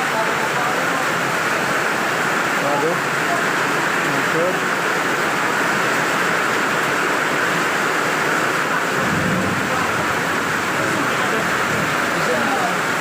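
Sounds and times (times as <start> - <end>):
heavy rain hiss: 0.0 - 13.0.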